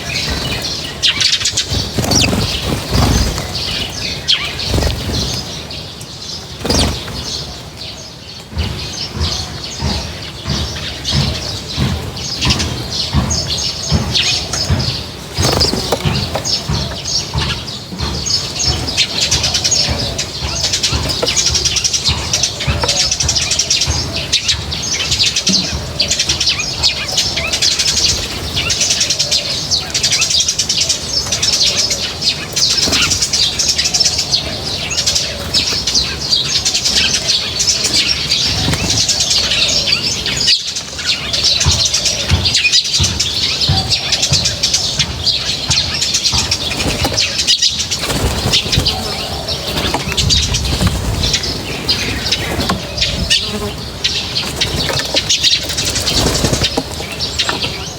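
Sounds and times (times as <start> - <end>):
small birds chirping: 0.0 - 57.9
wings flapping and fluttering: 0.0 - 57.9.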